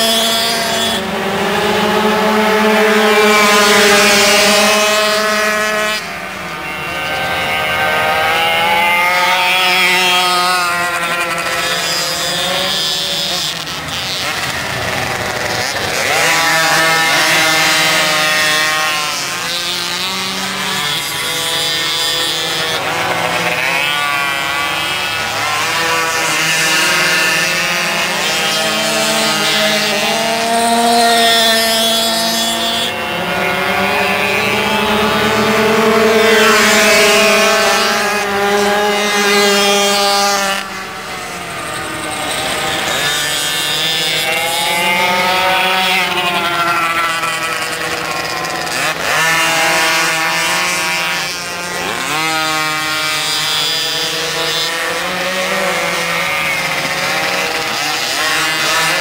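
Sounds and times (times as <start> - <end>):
small two-stroke engines racing: 0.0 - 59.0.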